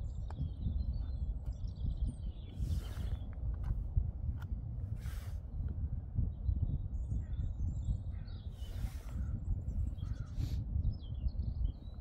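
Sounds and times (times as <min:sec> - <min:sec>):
birds chirping: 0:00.0 - 0:03.5, 0:05.5 - 0:12.0
wind rumble on microphone: 0:00.0 - 0:12.0.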